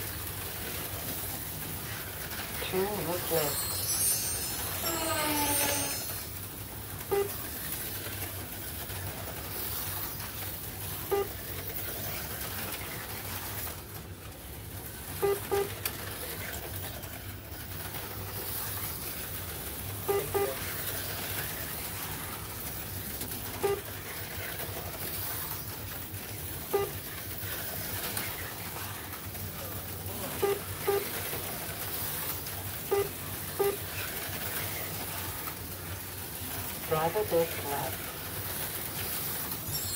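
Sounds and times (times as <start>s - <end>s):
slot car motors whirring: 0.0s - 39.9s.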